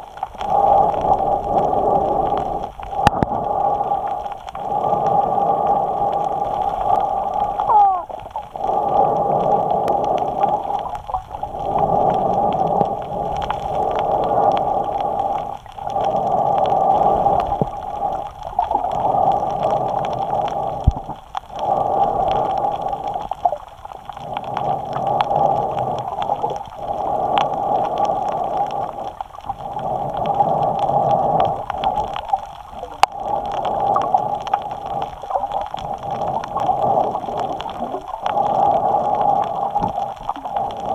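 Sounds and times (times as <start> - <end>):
breathing through a snorkel: 0.3 - 40.9.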